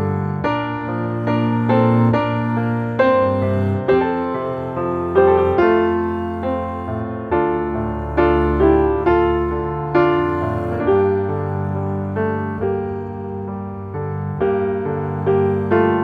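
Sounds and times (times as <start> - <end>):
gentle piano chords: 0.0 - 16.0.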